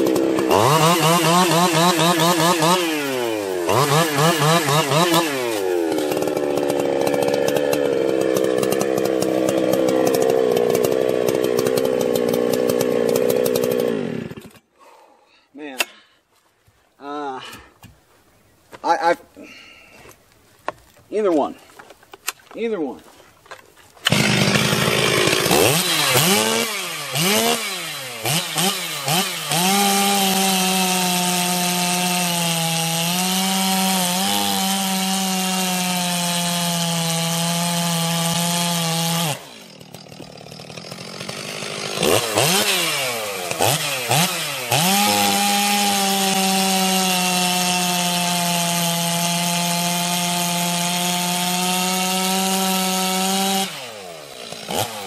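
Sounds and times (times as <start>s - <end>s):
chainsaw revving and cutting: 0.0s - 14.7s, 24.0s - 55.0s.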